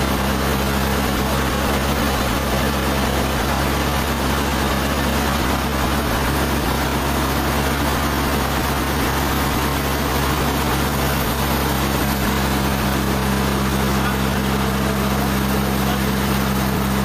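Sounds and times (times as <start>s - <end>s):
sawmill machinery running: 0.0s - 17.0s.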